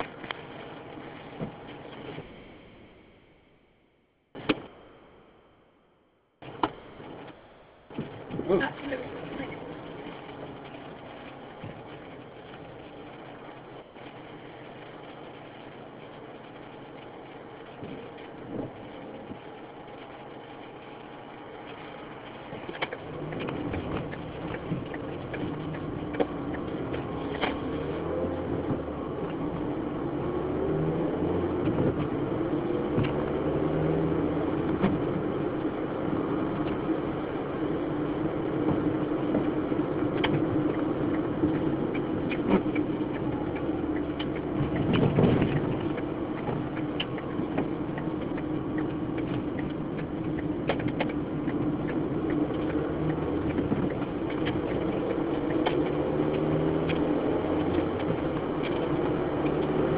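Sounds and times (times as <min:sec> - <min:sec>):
windscreen wiper sweeping: 0:00.0 - 0:02.7, 0:06.4 - 0:59.9
car engine and road noise: 0:00.0 - 0:59.9.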